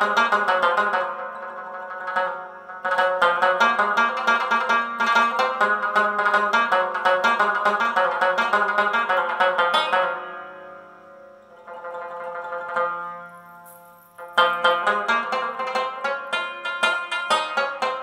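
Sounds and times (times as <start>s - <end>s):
plucked string instrument music: 0.0s - 18.0s.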